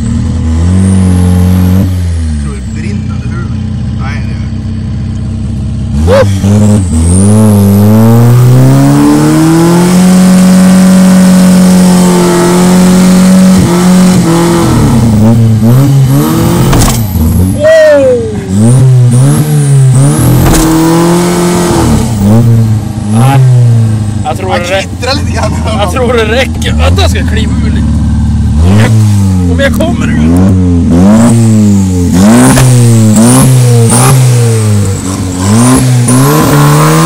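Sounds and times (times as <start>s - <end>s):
car engine revving hard: 0.0s - 2.6s, 5.7s - 17.6s, 18.4s - 37.0s.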